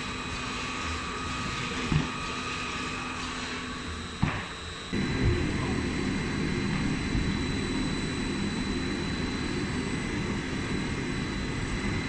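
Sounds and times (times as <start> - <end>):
high machine whine: 0.0 - 12.0.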